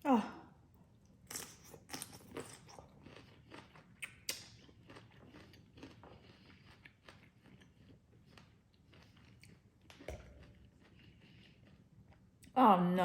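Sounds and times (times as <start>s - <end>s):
crunchy chewing of raw onion: 1.2s - 12.4s.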